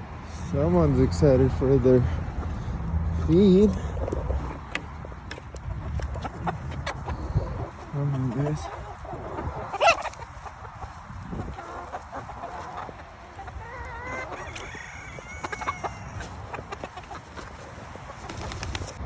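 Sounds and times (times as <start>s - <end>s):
chickens clucking and squawking: 0.0s - 19.0s.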